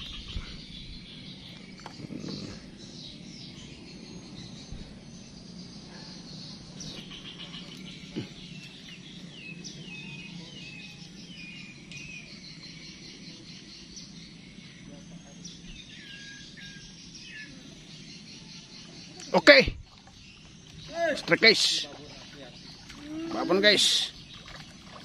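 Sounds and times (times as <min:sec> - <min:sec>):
birds chirping: 0:00.0 - 0:25.0
outdoor background noise: 0:00.0 - 0:25.0.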